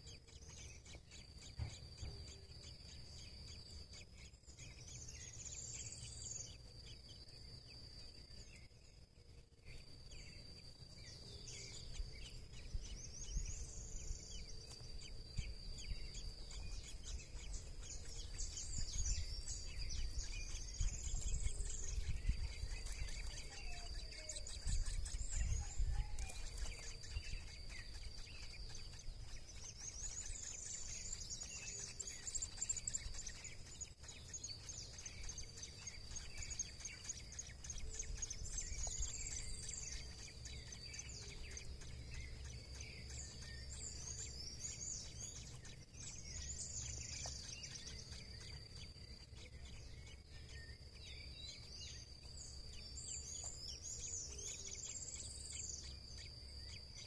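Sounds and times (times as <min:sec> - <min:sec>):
bird chirps and calls: 0:00.0 - 0:57.0
high-pitched insect drone: 0:09.6 - 0:57.0.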